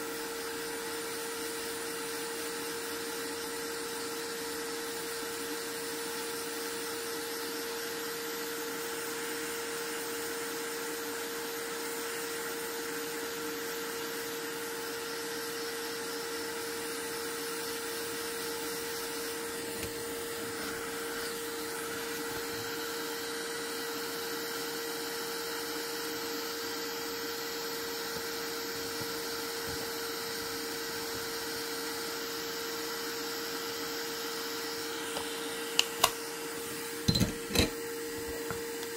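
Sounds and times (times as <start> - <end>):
electric fan motor whirring: 0.0 - 38.9.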